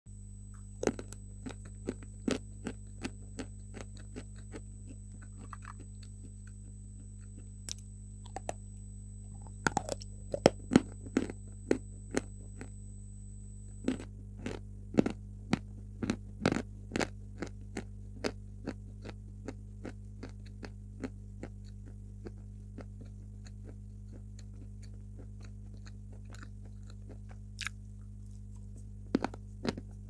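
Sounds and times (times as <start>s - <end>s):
steady low hum: 0.1s - 30.0s
chalk being chewed crunching: 0.8s - 6.6s, 7.2s - 8.6s, 9.4s - 12.7s, 13.8s - 30.0s.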